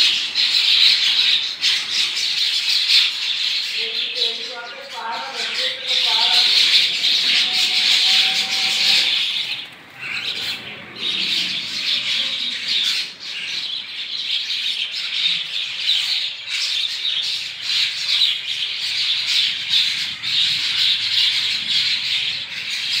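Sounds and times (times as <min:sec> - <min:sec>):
flock of birds squawking: 0:00.0 - 0:23.0.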